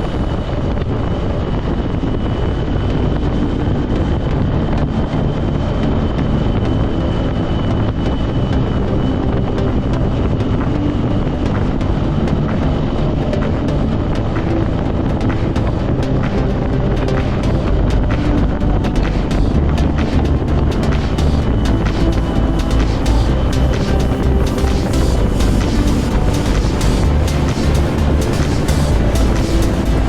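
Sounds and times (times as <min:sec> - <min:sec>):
faint steady whine: 0:00.0 - 0:30.0
vehicle driving at speed: 0:00.0 - 0:30.0
wind rumble on microphone: 0:00.0 - 0:30.0.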